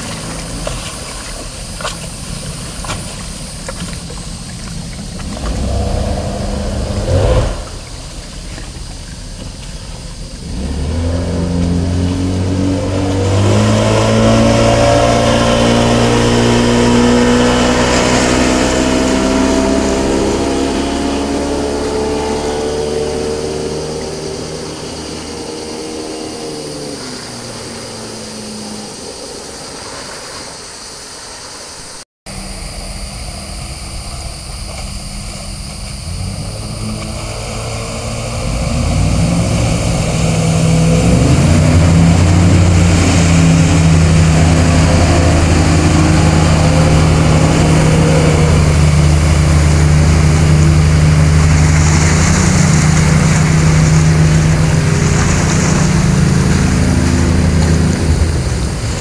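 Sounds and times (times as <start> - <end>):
boat motor running: 0.0 - 30.9, 32.3 - 59.0.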